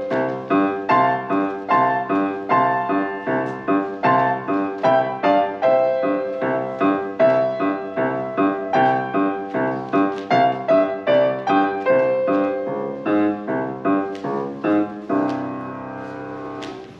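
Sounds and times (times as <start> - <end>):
solo piano: 0.0 - 16.9.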